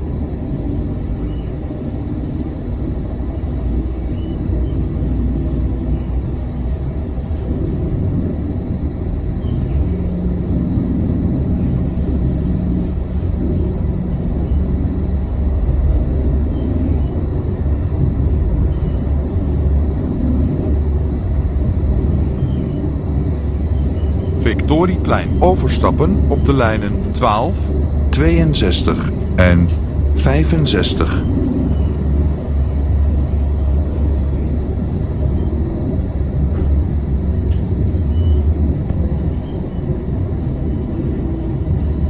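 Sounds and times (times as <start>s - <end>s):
low hum: 0.0s - 42.0s
tram wheels rumbling on rails: 0.0s - 42.0s.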